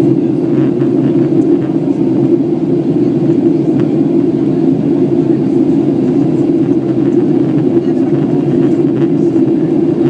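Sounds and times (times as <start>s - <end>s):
airplane engine drone in flight: 0.0s - 10.0s.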